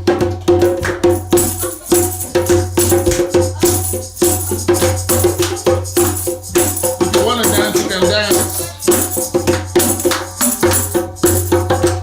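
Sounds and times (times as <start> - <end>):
repeated percussion strokes: 0.0 - 12.0
bright shaker sound: 0.7 - 12.0.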